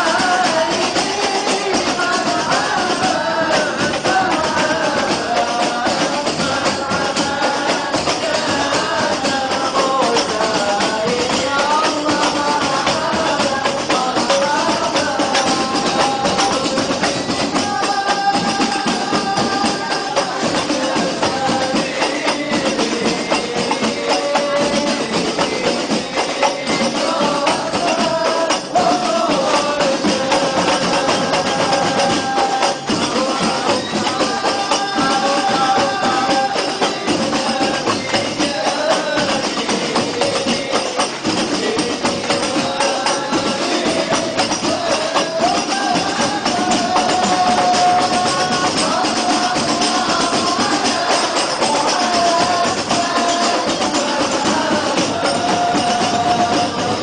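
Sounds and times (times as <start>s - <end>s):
frame drums with jingles: 0.0s - 57.0s
group of voices singing: 0.0s - 57.0s.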